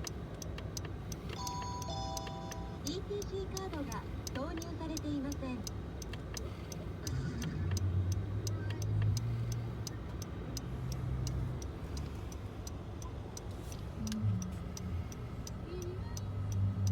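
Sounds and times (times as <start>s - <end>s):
idling car engine hum: 0.0s - 16.9s
turn signal ticking: 0.0s - 16.9s.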